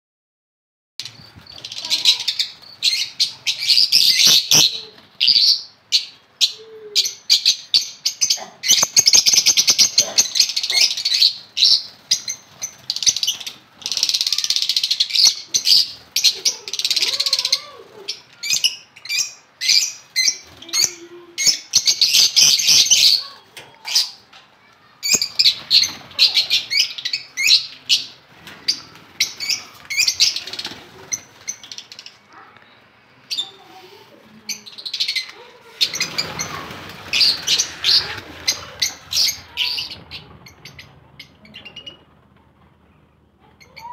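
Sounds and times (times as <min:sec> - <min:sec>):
lovebirds chattering: 0:01.0 - 0:43.9.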